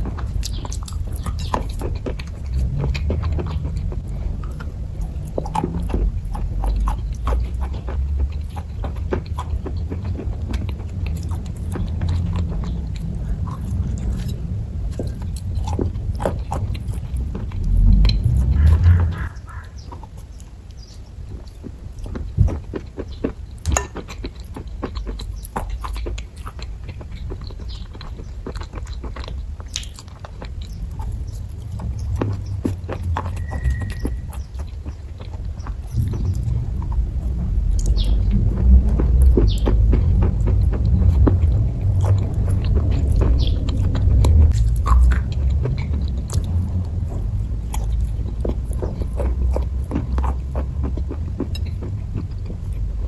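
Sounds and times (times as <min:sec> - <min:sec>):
low rumble: 0:00.0 - 0:20.1, 0:28.9 - 0:53.0
person chewing: 0:00.0 - 0:53.0
sticky mouth clicks: 0:00.0 - 0:53.0.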